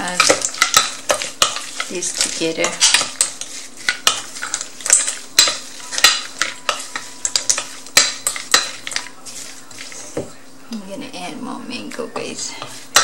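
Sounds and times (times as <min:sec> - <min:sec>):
salad rustling in a bowl: 0:00.1 - 0:10.6, 0:12.3 - 0:13.0.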